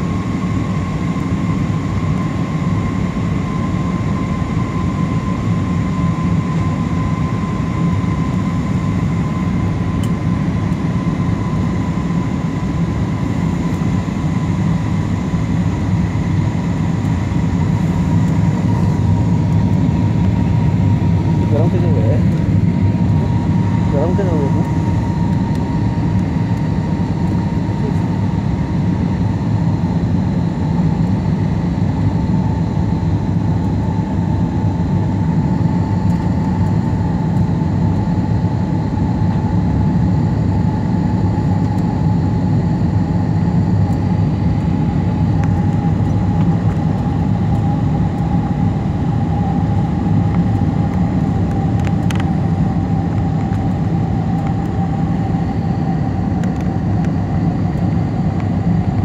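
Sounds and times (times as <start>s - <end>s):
jet engines and airflow rumble: 0.0s - 59.0s.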